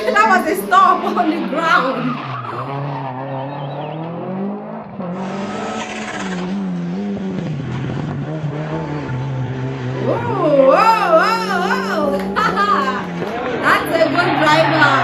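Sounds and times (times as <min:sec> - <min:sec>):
rally car engine revving: 0:00.0 - 0:15.0
tyres on loose gravel road: 0:00.0 - 0:15.0.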